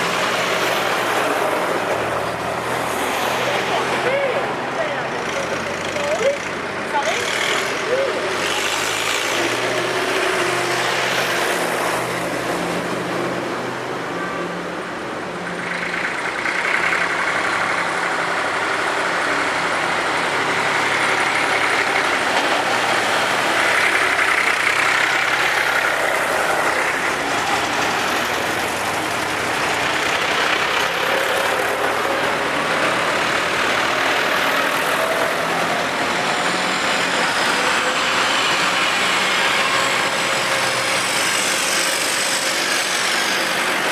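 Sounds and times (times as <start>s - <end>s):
tractors driving past: 0.0s - 43.9s.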